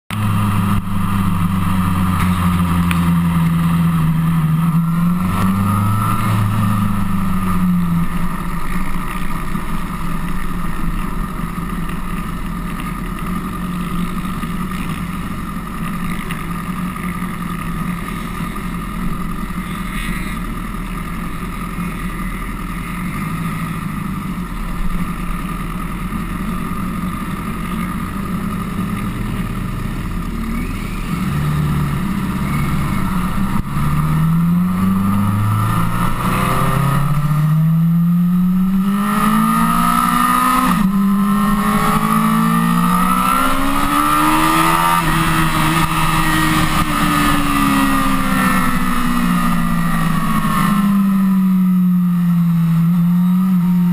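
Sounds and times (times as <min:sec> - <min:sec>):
motorcycle engine idling: 0:00.1 - 0:53.9.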